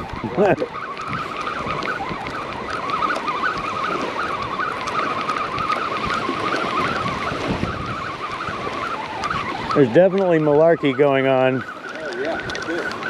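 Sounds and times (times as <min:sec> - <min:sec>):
fishing reel whirring: 0:00.0 - 0:13.0
wind and surf hiss: 0:00.0 - 0:13.0.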